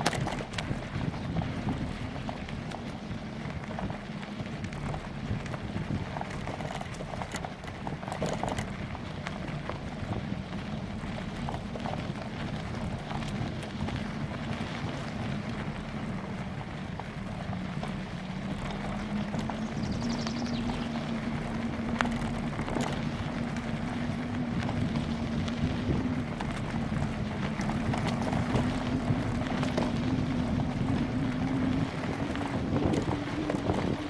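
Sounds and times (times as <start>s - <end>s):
bicycle frame rattling: 0.0s - 34.0s
bicycle tyre rumble: 0.0s - 34.0s
wind on microphone: 0.0s - 34.0s.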